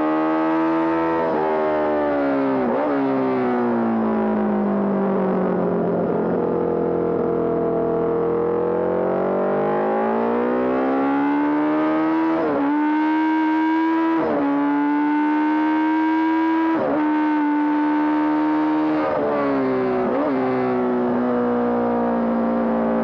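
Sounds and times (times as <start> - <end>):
racing motorcycle engine: 0.0 - 23.0.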